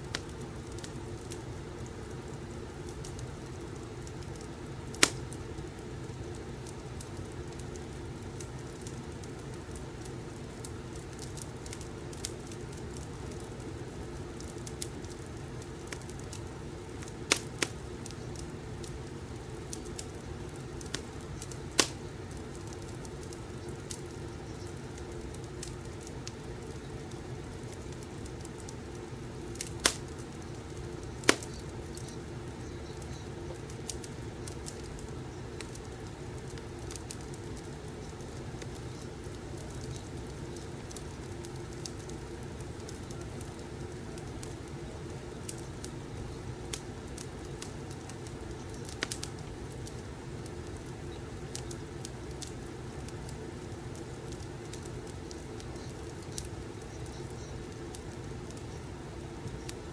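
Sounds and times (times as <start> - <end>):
fire crackling pops: 0.0 - 59.9
wood fire burning: 0.0 - 59.9.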